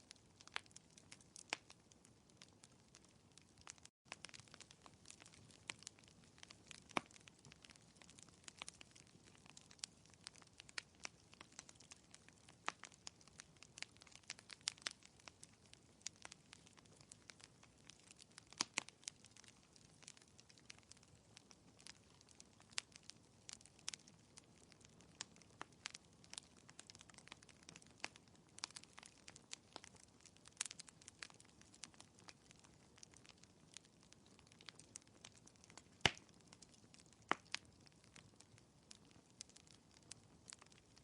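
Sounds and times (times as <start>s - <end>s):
fireplace crackling: 0.1s - 41.0s.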